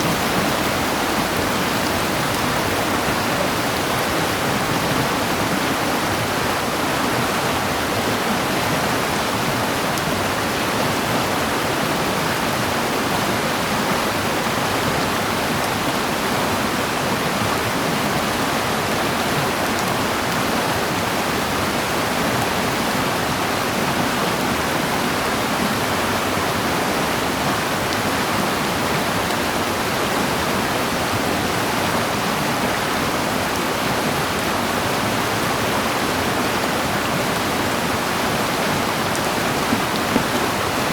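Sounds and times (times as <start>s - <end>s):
loud rushing water: 0.0s - 40.9s.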